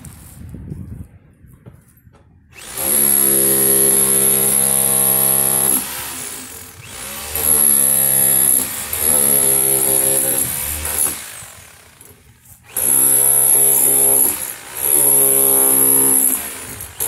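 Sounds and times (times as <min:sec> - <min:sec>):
electric jackhammer chiselling: 0:02.5 - 0:17.0.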